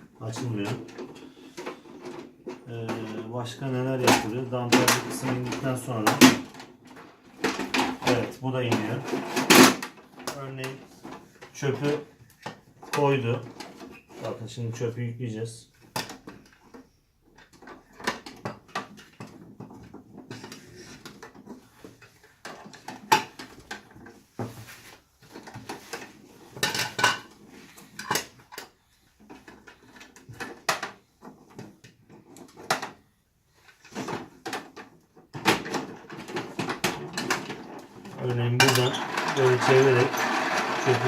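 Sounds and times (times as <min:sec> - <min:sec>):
plastic toy truck clicking and rattling: 0:00.3 - 0:14.3, 0:15.8 - 0:24.2, 0:25.2 - 0:33.0, 0:33.6 - 0:41.0.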